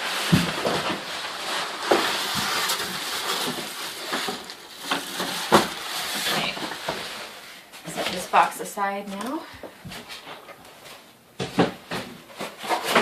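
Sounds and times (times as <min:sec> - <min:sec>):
cardboard rustling and scraping: 0:00.0 - 0:08.5, 0:09.1 - 0:13.0.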